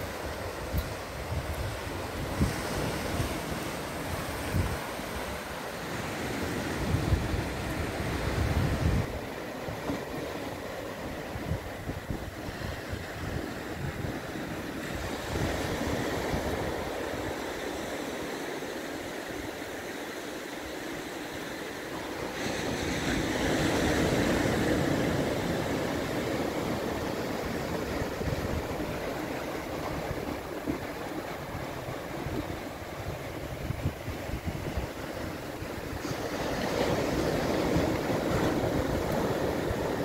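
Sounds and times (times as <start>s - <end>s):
wind buffeting microphone: 0.0s - 17.6s, 22.6s - 40.0s
surf breaking on rocky shore: 0.0s - 19.8s, 21.0s - 40.0s.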